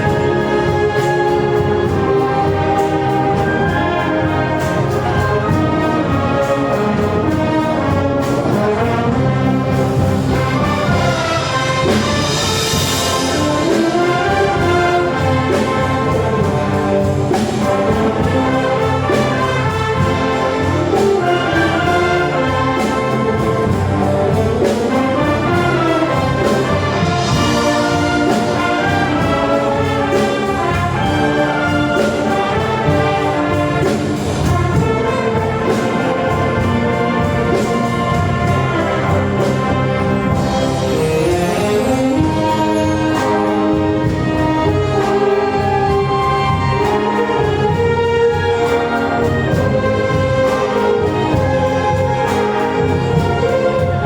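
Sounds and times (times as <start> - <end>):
brass band playing: 0.0 - 54.0
drums beating: 0.0 - 54.0.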